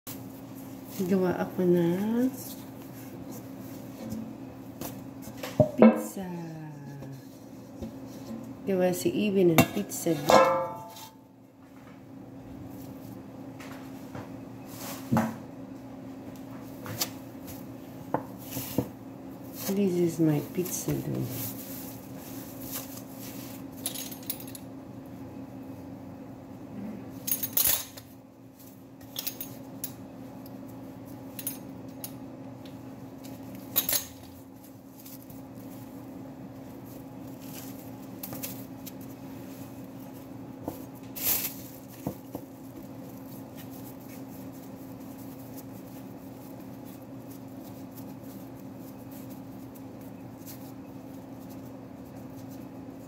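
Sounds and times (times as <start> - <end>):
kitchen hum: 0.1 - 53.0.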